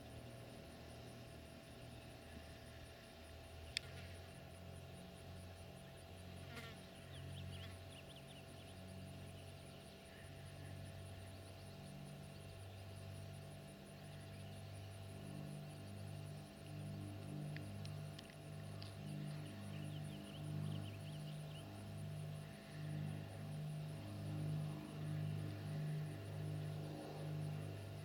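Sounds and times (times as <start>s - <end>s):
distant propeller plane drone: 0.0s - 28.0s
insects pulsing: 0.0s - 28.0s.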